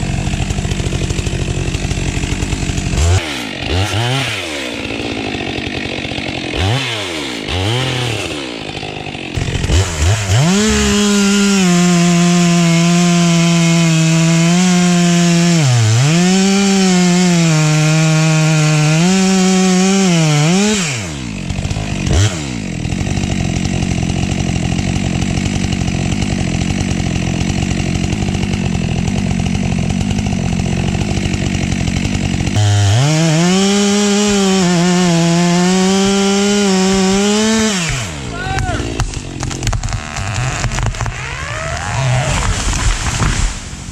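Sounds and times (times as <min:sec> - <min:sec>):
chainsaw cutting wood: 0:00.0 - 0:43.9
chainsaw revving: 0:00.0 - 0:43.9.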